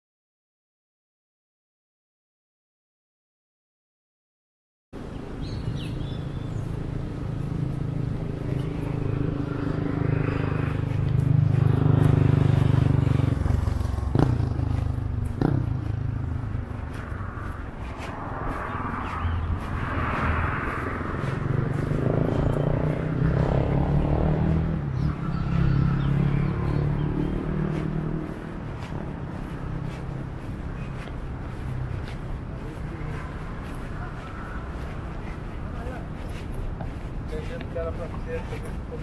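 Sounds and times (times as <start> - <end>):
vehicle engines passing: 5.0 - 39.0.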